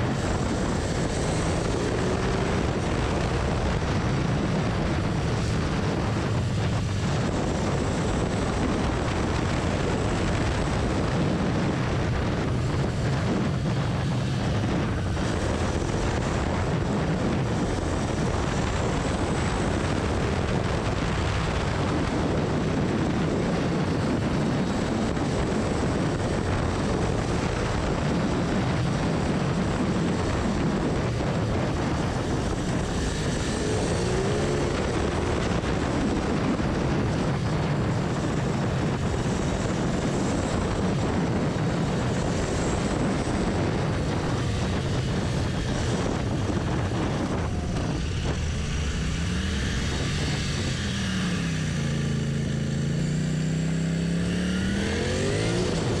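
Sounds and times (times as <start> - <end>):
heavy wind noise: 0.0 - 56.0
motorcycle engine running: 0.0 - 56.0.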